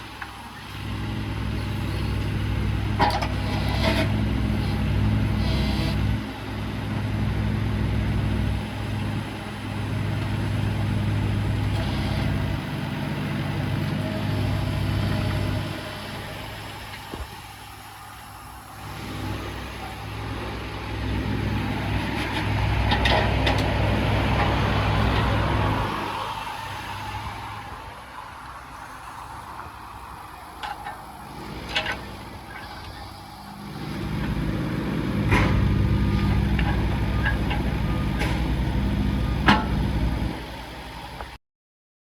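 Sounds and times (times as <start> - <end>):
excavator diesel engine running: 0.0 - 41.4.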